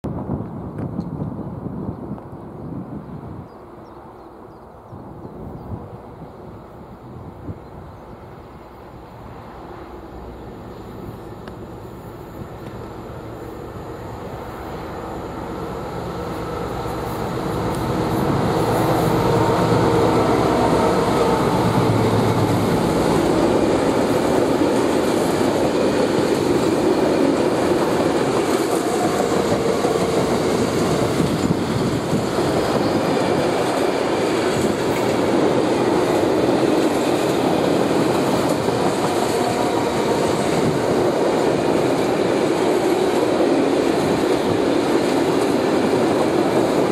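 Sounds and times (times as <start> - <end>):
diesel locomotive engine passing: 2.6 - 46.9
train wheels rolling on rails: 4.8 - 46.9.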